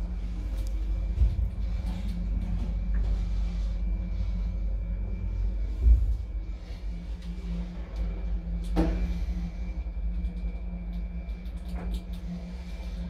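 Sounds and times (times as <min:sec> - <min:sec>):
elevator machinery humming: 0:00.0 - 0:13.0.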